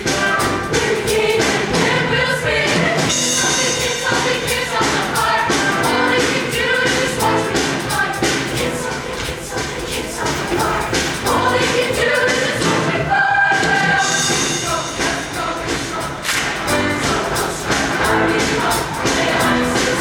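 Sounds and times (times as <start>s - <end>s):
choir singing: 0.0s - 20.0s
instrumental accompaniment with beat: 0.0s - 20.0s.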